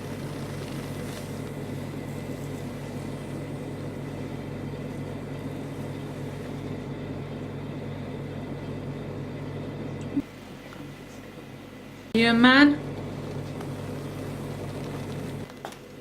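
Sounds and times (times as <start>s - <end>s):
steady low hum with hiss: 0.0s - 16.0s.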